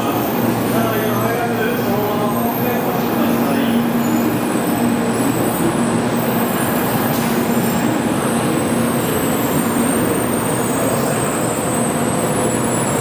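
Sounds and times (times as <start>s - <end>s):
train humming at platform: 0.0s - 13.0s.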